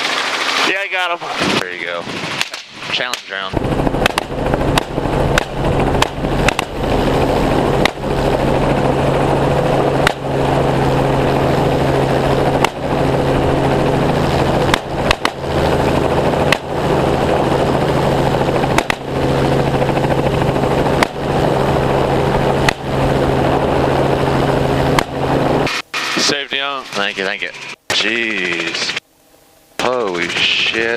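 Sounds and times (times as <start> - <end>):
helicopter engine and rotor: 0.1 - 29.0, 29.8 - 30.9.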